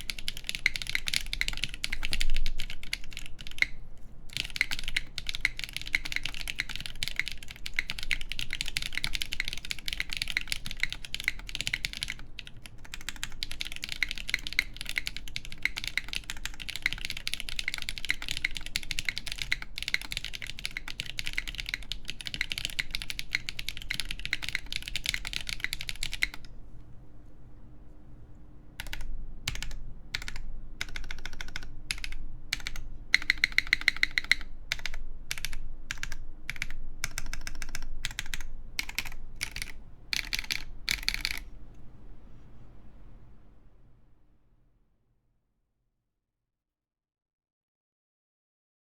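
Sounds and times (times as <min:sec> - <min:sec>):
mechanical keyboard typing: 0:00.0 - 0:26.5, 0:28.8 - 0:41.5.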